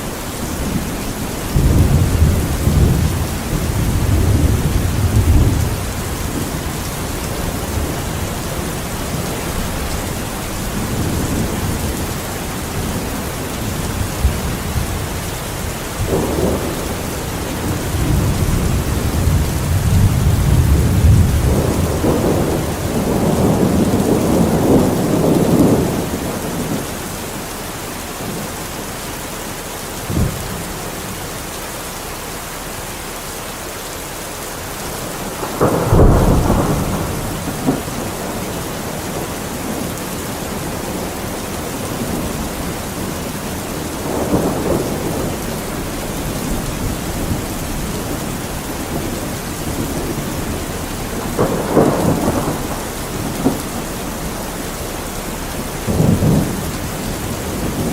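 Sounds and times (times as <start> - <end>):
thunder rumbling: 0.0 - 27.5, 29.9 - 31.5, 34.5 - 57.9
steady rain hissing: 0.0 - 57.9.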